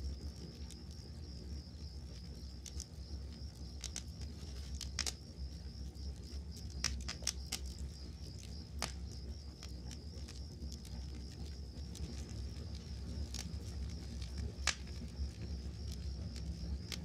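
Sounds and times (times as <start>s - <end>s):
campfire crackling and popping: 0.0s - 17.0s
crickets trilling: 0.0s - 17.0s.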